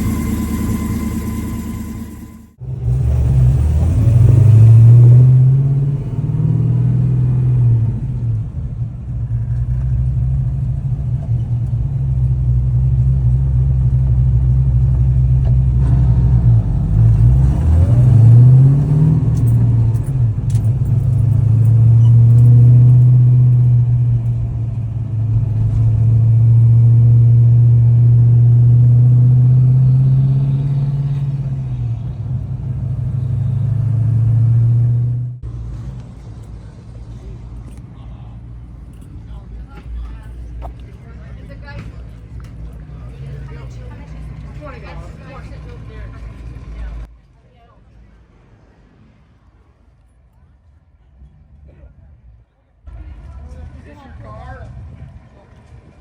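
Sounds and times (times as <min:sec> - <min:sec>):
car engine rumbling: 0:00.0 - 0:47.1.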